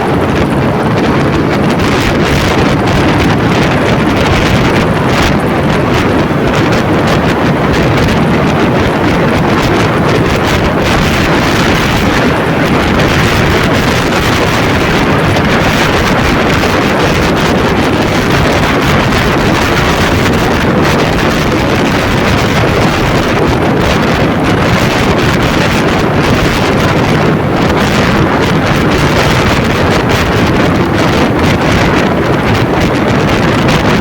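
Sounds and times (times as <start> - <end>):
vehicle road noise: 0.0 - 34.0
wind rushing over microphone: 0.0 - 34.0.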